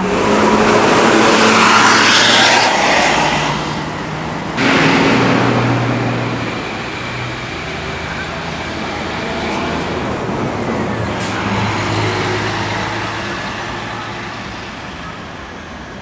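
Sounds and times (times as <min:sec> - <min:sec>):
loud vehicle engine: 0:00.0 - 0:16.0
vehicles driving past: 0:00.0 - 0:16.0.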